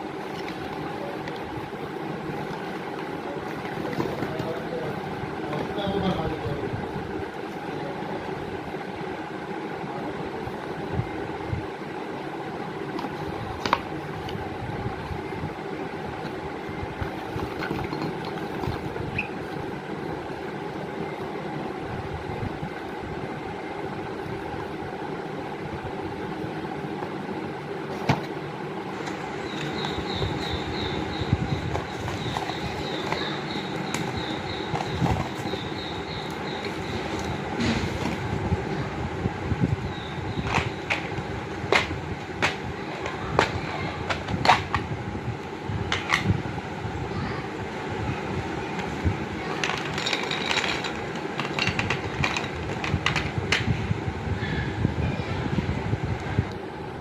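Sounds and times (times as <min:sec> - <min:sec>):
low mechanical rumble: 0:00.0 - 0:57.0.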